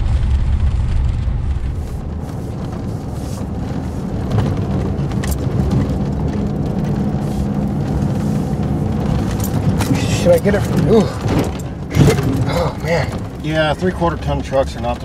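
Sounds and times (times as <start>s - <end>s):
pickup truck driving rumble: 0.0s - 15.0s.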